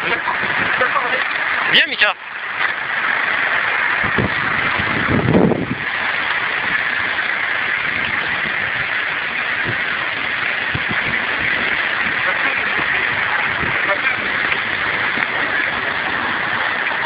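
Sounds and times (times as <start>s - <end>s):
low rumble: 0.0s - 17.0s
street traffic: 0.0s - 17.0s
wind: 0.0s - 17.0s.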